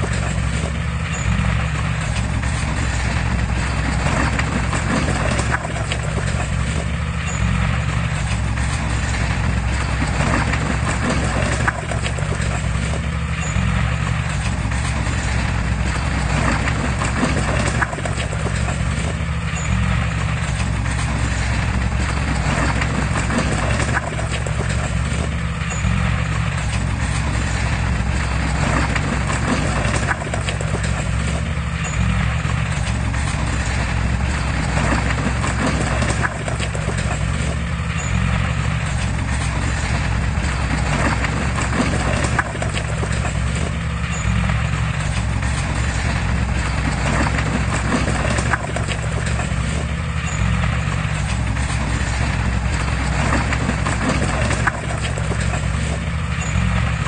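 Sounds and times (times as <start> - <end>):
heavy diesel machinery under load: 0.0 - 57.0
metallic clanking of crawler tracks: 0.0 - 57.0.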